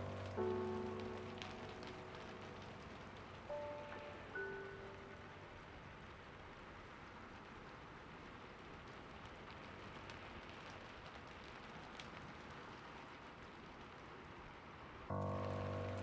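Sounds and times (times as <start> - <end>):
soft steady rainfall: 0.0 - 16.0.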